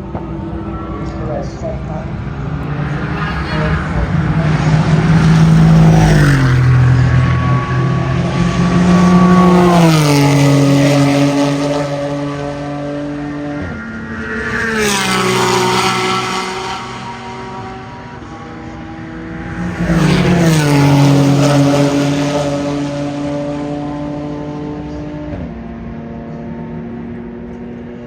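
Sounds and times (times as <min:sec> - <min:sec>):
race cars passing by: 0:00.0 - 0:28.0.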